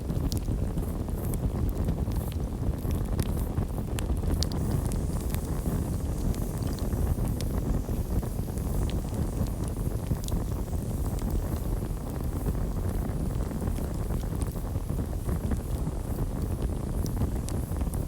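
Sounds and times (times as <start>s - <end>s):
burning wood crackling and popping: 0.0s - 18.0s
low rumble of flames: 0.0s - 18.0s.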